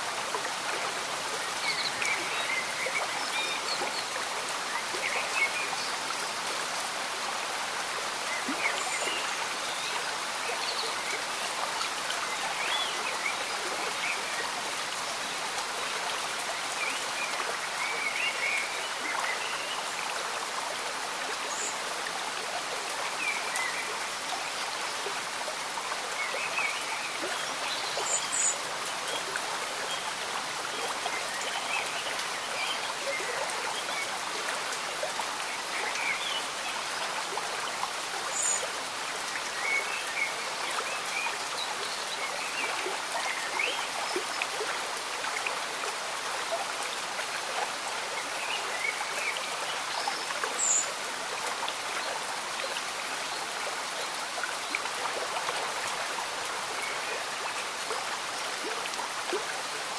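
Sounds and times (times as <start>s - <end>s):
gentle rain: 0.0s - 59.9s
stream bubbling and gurgling: 0.0s - 59.9s.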